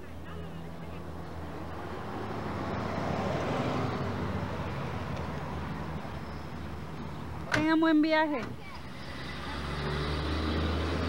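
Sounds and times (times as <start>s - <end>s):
car passing: 0.0s - 11.0s.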